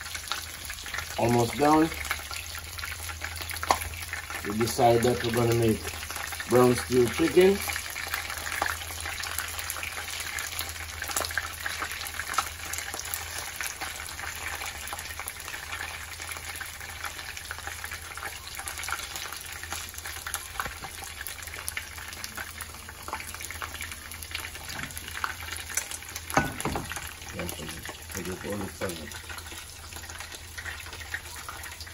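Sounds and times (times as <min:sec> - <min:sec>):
chicken frying in hot oil: 0:00.0 - 0:31.9
crackles and pops: 0:02.0 - 0:04.5, 0:07.6 - 0:31.9.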